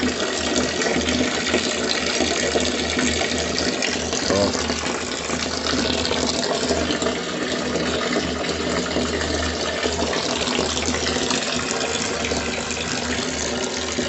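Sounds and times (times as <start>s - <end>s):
water pouring into a drum: 0.0s - 14.0s.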